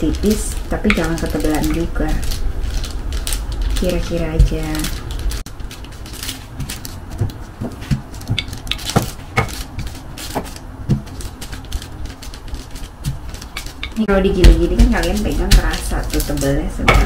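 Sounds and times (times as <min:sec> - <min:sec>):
rolling pin rolling dough: 0:00.0 - 0:17.0.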